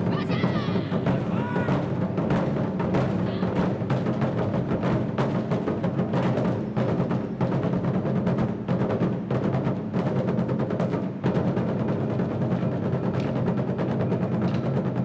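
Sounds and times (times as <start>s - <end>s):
drum ensemble playing fast: 0.0s - 15.0s.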